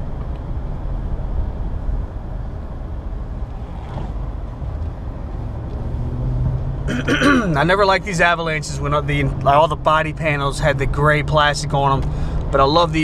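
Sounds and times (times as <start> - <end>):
engine and road rumble in car: 0.0 - 13.0.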